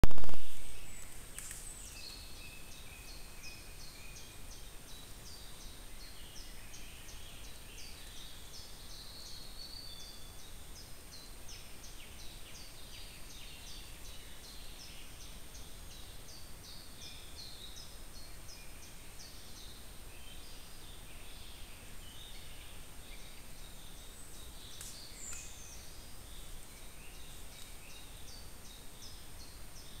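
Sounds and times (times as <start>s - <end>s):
steady hiss: 0.1s - 30.0s
songbirds chirping and trilling: 0.7s - 30.0s.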